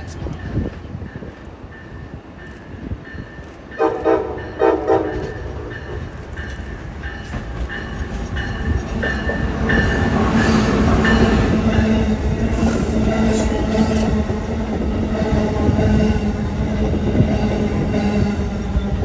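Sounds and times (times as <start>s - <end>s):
train running past: 0.0s - 19.0s.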